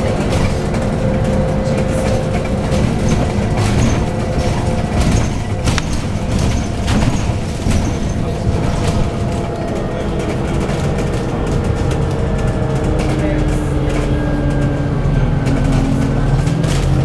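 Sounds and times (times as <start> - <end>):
bus body rattles and knocks: 0.0 - 17.0
bus engine rumble with whine: 0.0 - 17.0.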